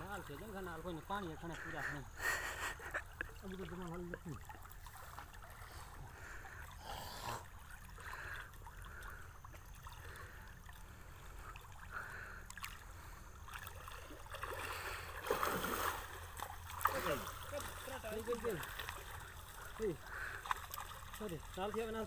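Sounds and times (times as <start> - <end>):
nets swishing through water: 0.0 - 2.1, 2.9 - 6.8, 7.4 - 22.0.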